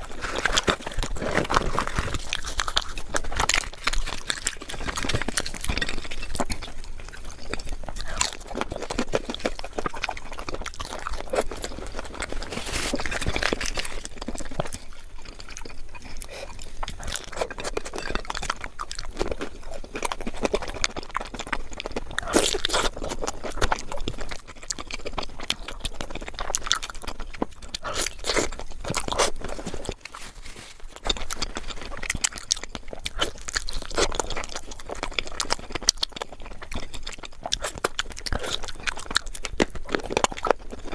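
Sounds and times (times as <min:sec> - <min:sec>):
chewing and crunching food: 0:00.0 - 0:40.9
food being torn: 0:00.0 - 0:40.9.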